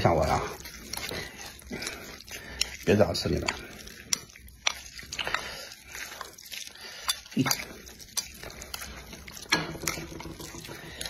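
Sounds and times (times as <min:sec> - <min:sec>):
chewing noodles: 0:00.0 - 0:11.0.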